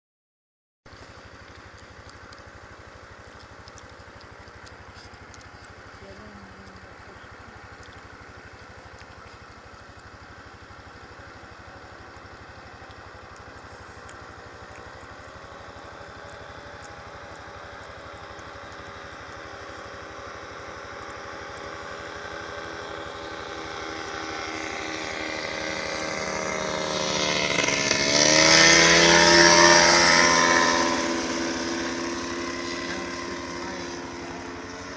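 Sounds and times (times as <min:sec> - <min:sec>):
aircraft engine passing: 0:00.9 - 0:34.9.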